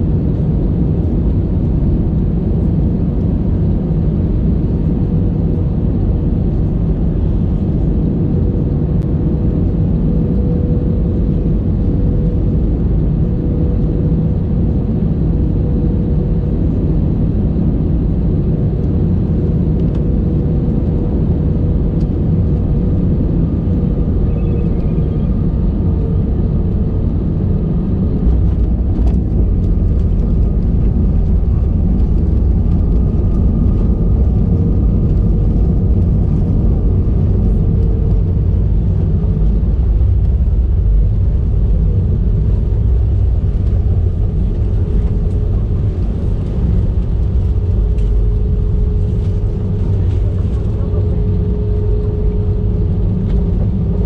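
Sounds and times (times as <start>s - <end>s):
airplane engine tone: 0.0s - 54.0s
airplane touchdown: 0.2s - 54.0s.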